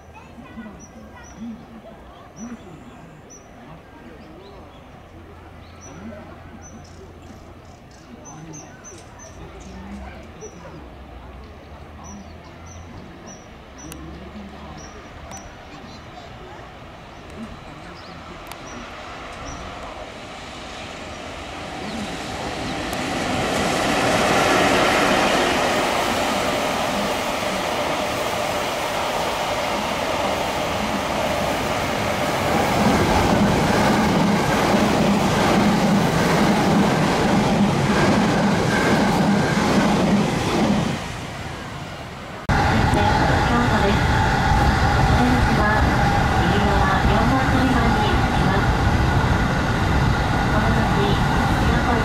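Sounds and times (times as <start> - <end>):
train wheels rumbling on rail: 6.8 - 52.0.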